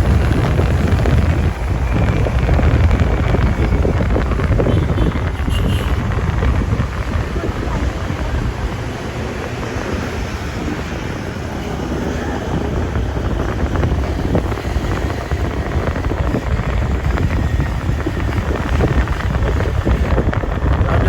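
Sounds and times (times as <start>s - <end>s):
low vehicle rumble: 0.0s - 21.0s
wind buffeting microphone: 0.0s - 21.0s.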